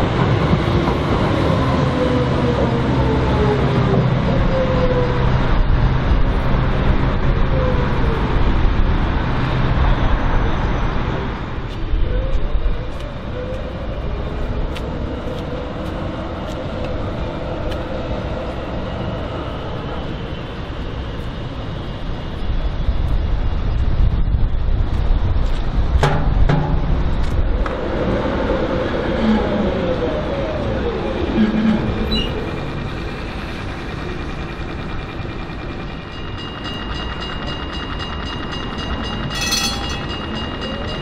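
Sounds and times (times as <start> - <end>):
electric tram motors whining: 0.0 - 41.0
wheels rumbling on rail: 0.0 - 41.0.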